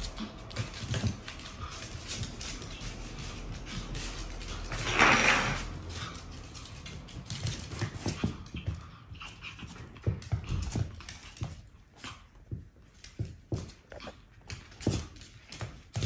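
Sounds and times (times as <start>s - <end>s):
paws tapping on wooden floor: 0.0s - 16.0s.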